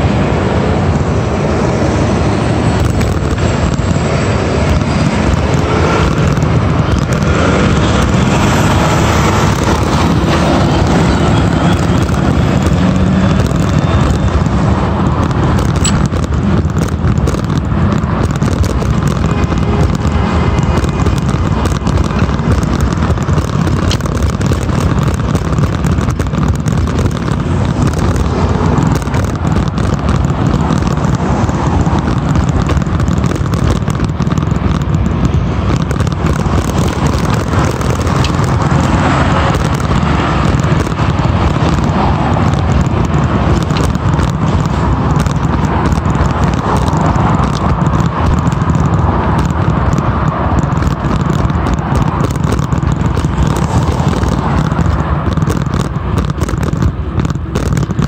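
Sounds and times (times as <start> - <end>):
cars passing: 0.0 - 58.0
wind rumble on microphone: 0.0 - 58.0.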